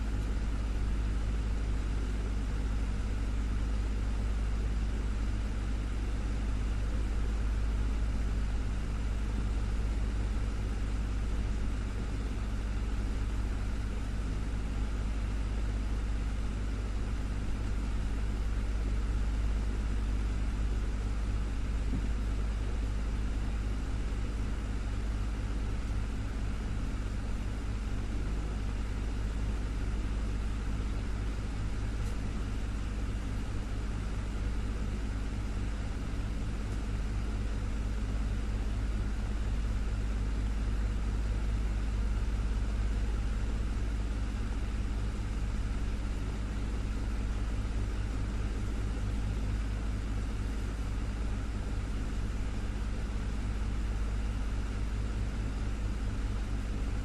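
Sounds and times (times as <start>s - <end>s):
desktop fan humming: 0.0s - 57.0s.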